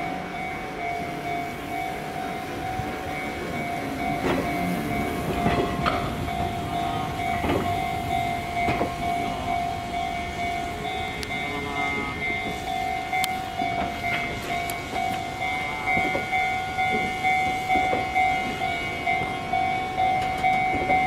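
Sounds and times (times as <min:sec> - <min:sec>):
level crossing alarm ringing: 0:00.0 - 0:21.0
train wheels clacking over rail joints: 0:02.7 - 0:21.0.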